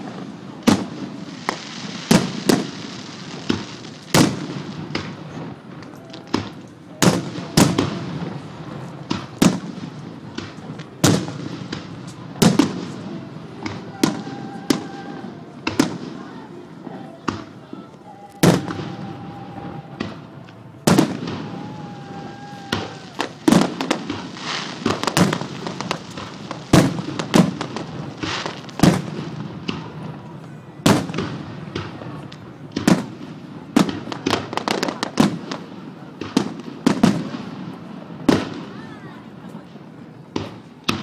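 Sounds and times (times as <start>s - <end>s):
firework booms: 0.0s - 41.0s
firework crackling: 0.0s - 41.0s.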